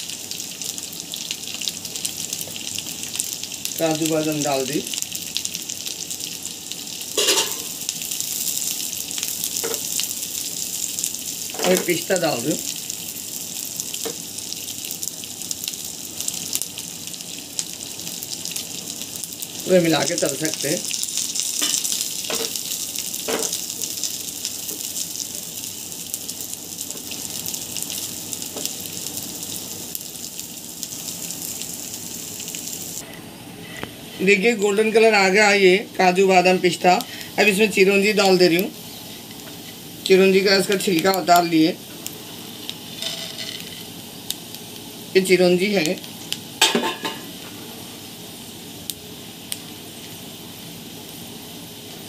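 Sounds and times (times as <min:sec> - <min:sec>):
nuts sizzling in hot ghee: 0:00.0 - 0:52.0.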